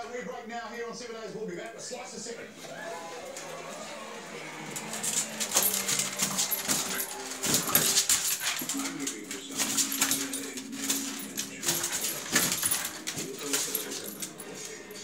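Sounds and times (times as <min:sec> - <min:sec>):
dog paws on tiles: 0:02.6 - 0:15.0.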